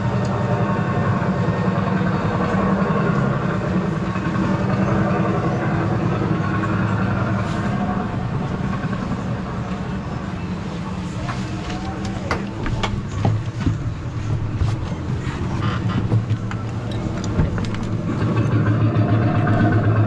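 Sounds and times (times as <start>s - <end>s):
ride motor rumbling: 0.0s - 20.0s.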